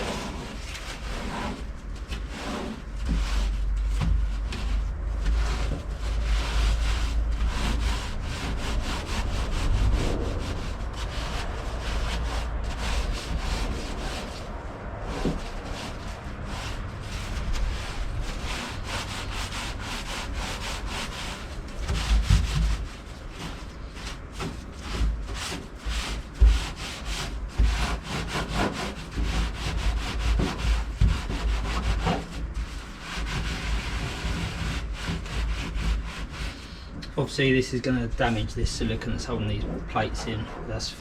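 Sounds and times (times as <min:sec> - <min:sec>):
scraping on steel floorpan: 0:00.0 - 0:37.0, 0:38.4 - 0:41.0.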